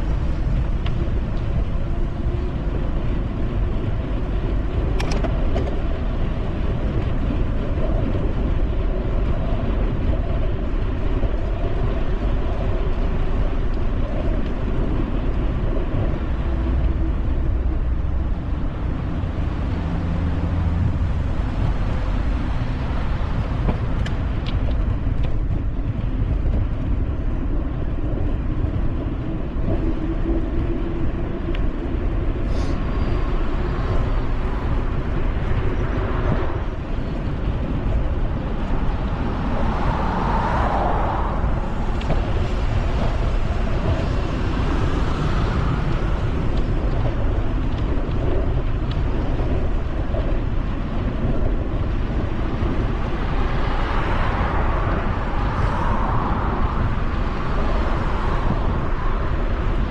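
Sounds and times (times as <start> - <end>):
road traffic: 0.0 - 59.9
wind and road noise from bicycle: 0.0 - 59.9.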